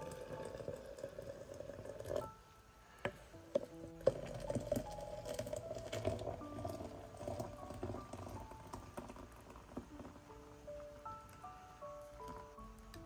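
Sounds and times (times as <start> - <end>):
hot water pouring from kettle: 0.0 - 11.3.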